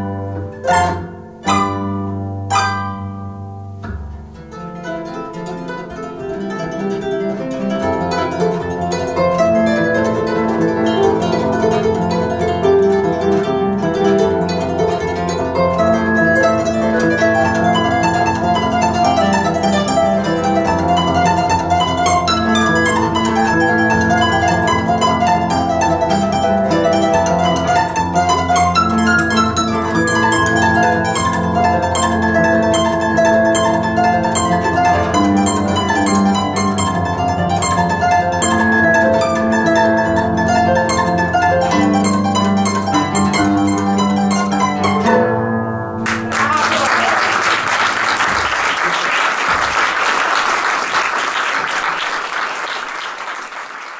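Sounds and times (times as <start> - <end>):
harp playing melody and chords: 0.0 - 46.4.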